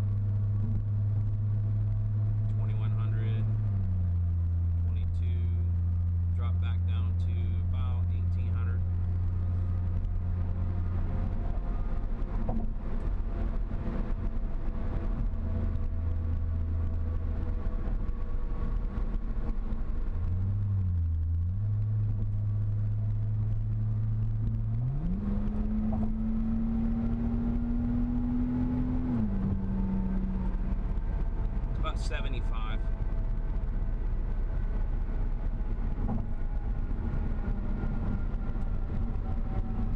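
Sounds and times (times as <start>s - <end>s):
low exhaust hum: 0.0s - 39.9s
road noise: 0.0s - 39.9s.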